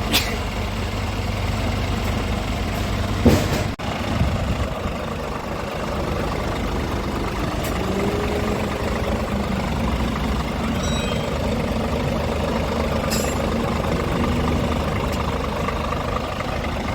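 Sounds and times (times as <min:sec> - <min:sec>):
diesel truck engine idling: 0:00.0 - 0:16.9.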